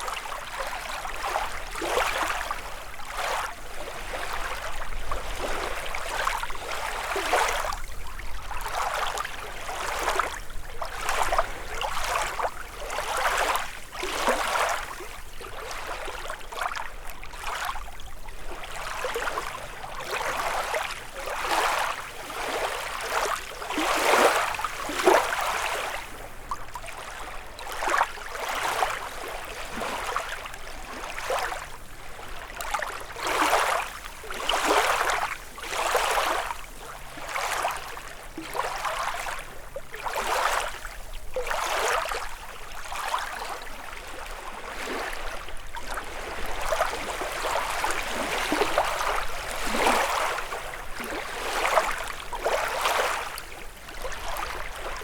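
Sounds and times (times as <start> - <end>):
lake waves lapping on shore: 0.0 - 55.0.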